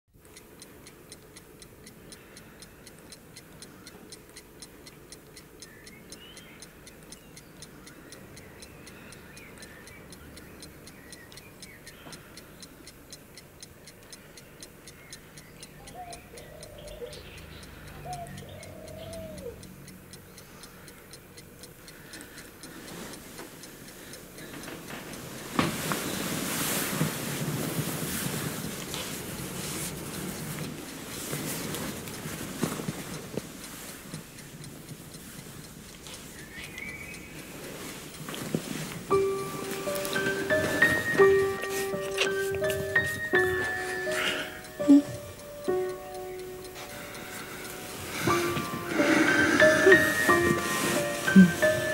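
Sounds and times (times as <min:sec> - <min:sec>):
clock ticking: 0:00.1 - 0:51.9.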